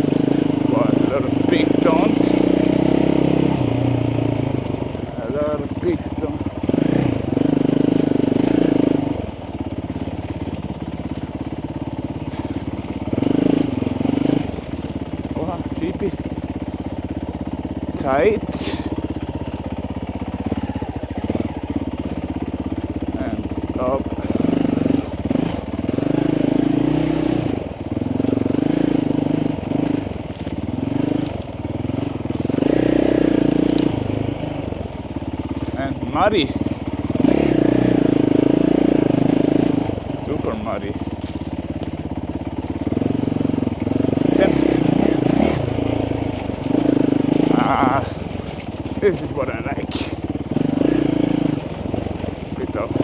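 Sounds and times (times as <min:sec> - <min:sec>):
motorcycle engine chugging: 0:00.0 - 0:53.0.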